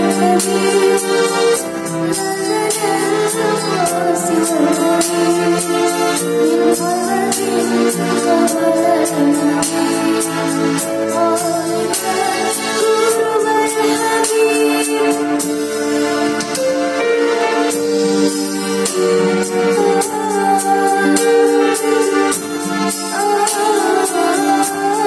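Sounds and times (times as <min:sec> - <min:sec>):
girl singing into microphone: 0:00.0 - 0:15.8, 0:18.9 - 0:25.0
backing music with steady beat: 0:00.0 - 0:25.0.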